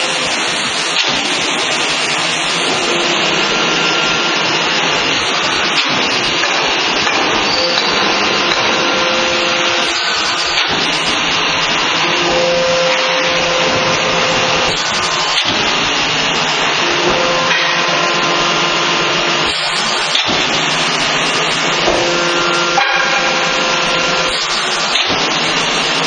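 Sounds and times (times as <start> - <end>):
faint whining tones: 0.0 - 26.0
hydraulic machine whirring: 0.0 - 26.0.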